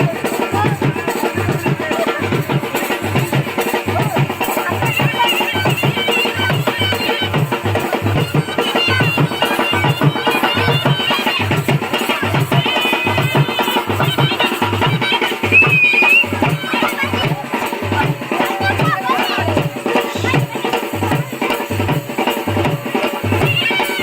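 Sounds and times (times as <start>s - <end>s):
loud party music: 0.0s - 24.0s.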